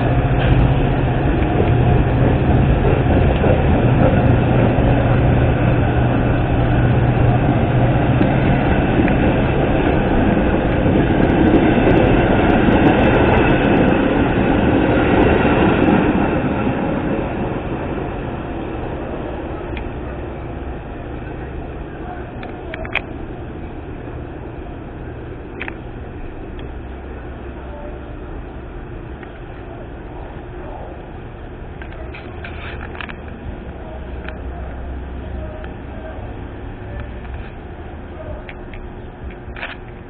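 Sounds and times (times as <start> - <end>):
diesel locomotive engine drone: 0.0 - 40.0
train cars rumbling: 0.0 - 40.0
wheels clicking over rail joints: 0.0 - 40.0.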